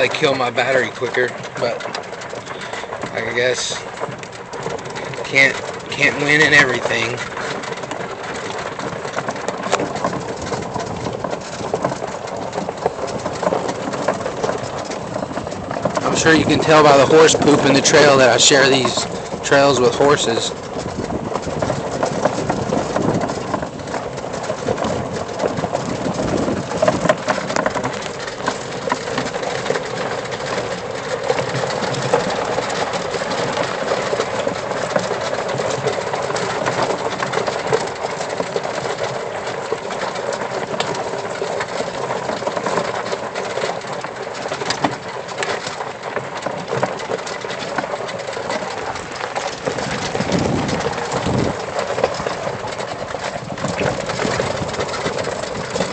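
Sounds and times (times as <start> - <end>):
electric vehicle motor noise: 0.0 - 55.9
knocks over bumps: 0.0 - 55.9
tires rolling over dirt: 0.0 - 55.9.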